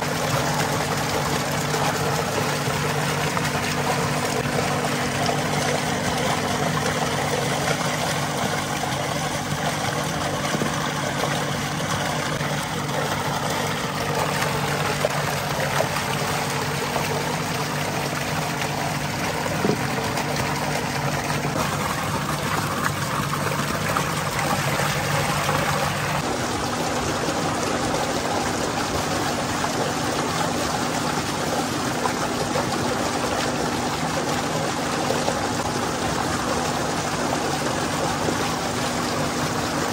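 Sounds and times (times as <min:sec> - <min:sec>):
low machine hum: 0:00.0 - 0:39.9
water gushing into tank: 0:00.0 - 0:39.9.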